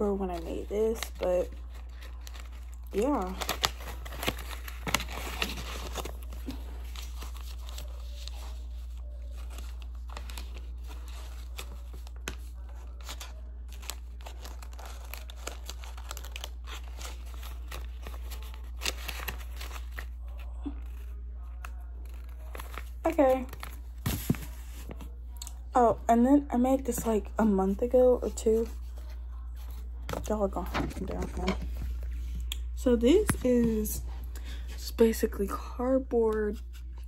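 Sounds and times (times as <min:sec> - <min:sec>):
paper rustling and crinkling: 0:00.0 - 0:25.3, 0:26.9 - 0:32.5.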